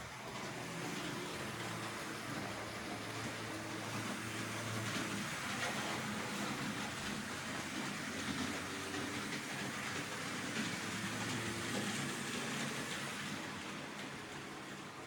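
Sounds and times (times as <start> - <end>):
model train motor hum: 0.0 - 15.0
wheels rattling on rails: 0.0 - 15.0.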